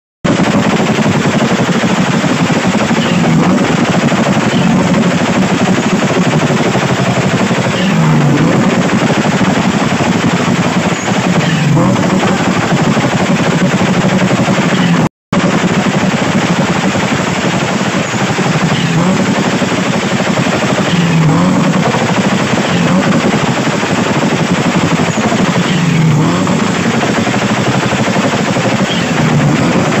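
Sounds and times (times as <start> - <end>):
car exhaust popping and banging: 0.2 - 30.0.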